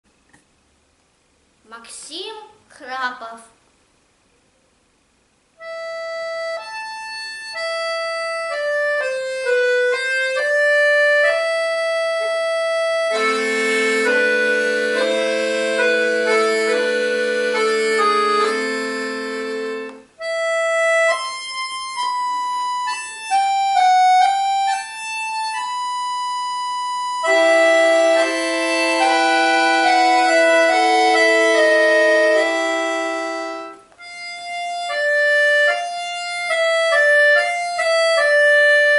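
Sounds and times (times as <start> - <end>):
solo accordion playing: 5.6 - 38.9.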